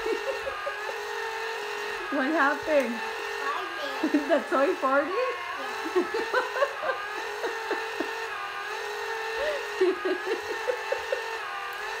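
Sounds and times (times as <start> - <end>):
toy motor whining: 0.0 - 12.0.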